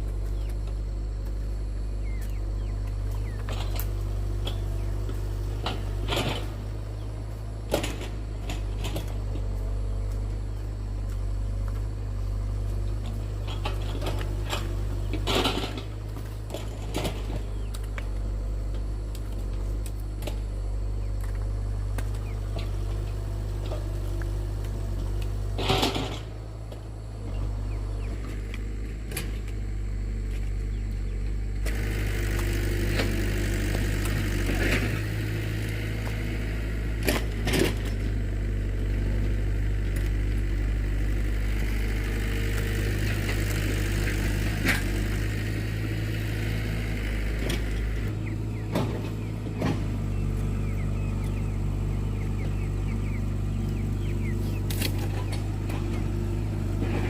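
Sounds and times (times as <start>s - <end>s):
motor humming: 0.0s - 57.0s.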